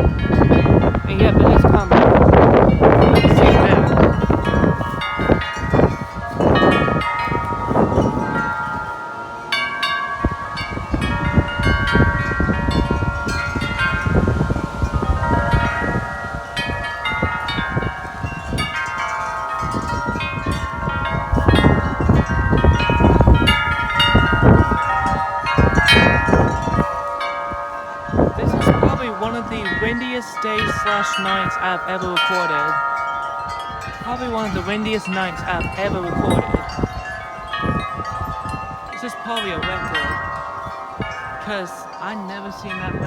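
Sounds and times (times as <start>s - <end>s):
tubular wind chimes ringing: 0.0s - 43.0s
wind rumbling on microphone: 0.0s - 43.0s.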